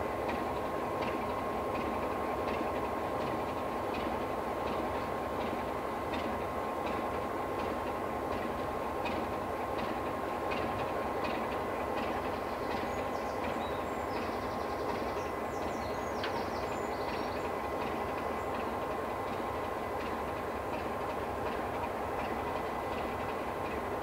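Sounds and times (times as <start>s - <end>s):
diesel locomotive engine running: 0.0s - 24.0s.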